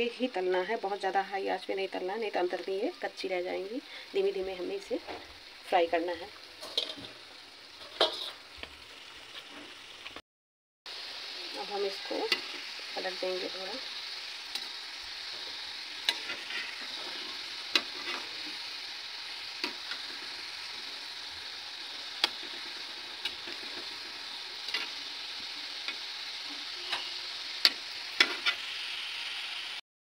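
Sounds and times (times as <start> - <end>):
oil sizzling: 0.0 - 10.2, 10.9 - 29.8.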